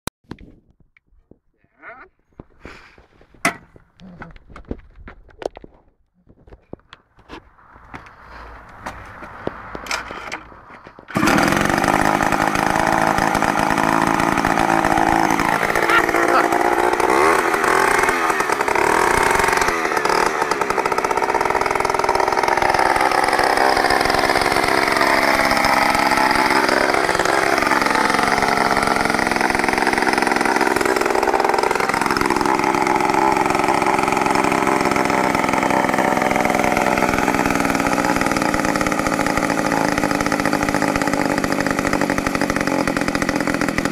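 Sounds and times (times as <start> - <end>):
chainsaw engine revving: 7.7 - 43.9.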